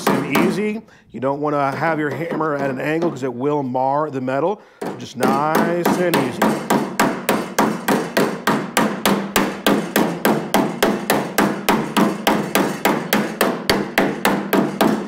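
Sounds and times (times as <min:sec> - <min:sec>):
hammer tapping sheet metal: 0:00.0 - 0:00.8, 0:01.6 - 0:03.3, 0:04.8 - 0:15.0.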